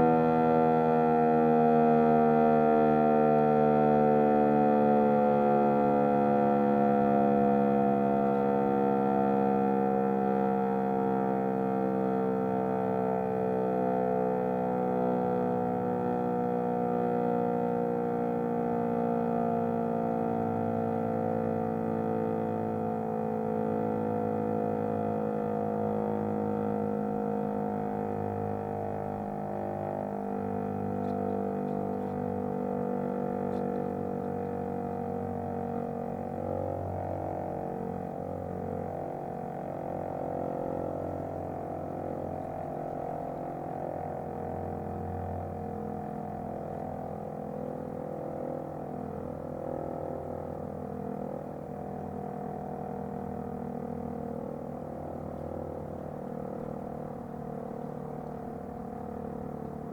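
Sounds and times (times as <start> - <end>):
motor siren steady tone: 0.0 - 59.9.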